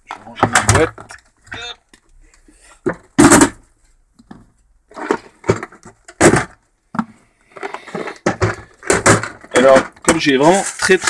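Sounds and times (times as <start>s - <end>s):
plastic box knocking and rattling: 0.1s - 1.4s, 2.8s - 11.0s.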